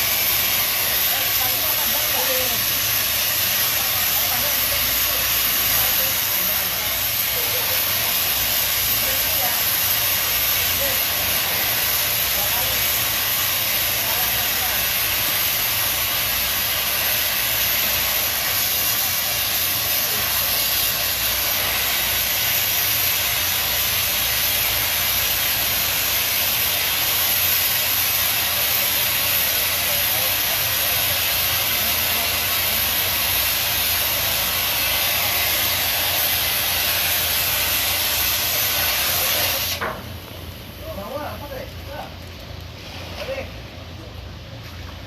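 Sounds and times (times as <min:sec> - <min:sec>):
loud steady hissing: 0:00.0 - 0:45.0.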